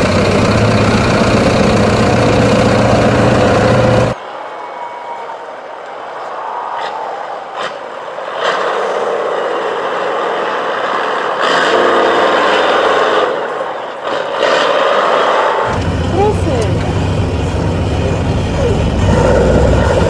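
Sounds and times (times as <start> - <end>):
truck engine revving: 0.0 - 4.2, 6.8 - 20.0.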